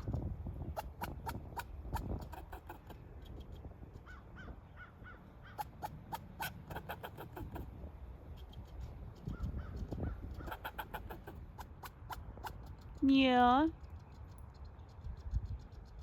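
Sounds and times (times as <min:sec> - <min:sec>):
squirrel barking: 0:00.0 - 0:14.7.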